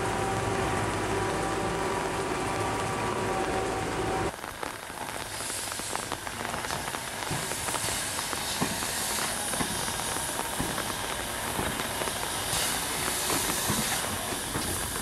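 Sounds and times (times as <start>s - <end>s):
electric locomotive humming: 0.0s - 4.4s, 6.9s - 15.0s.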